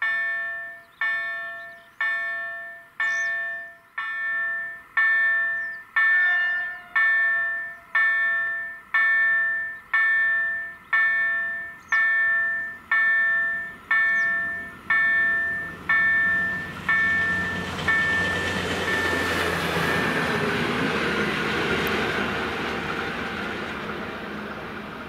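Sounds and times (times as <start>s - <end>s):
level crossing warning bell: 0.0s - 20.8s
train rumbling past: 0.0s - 25.0s.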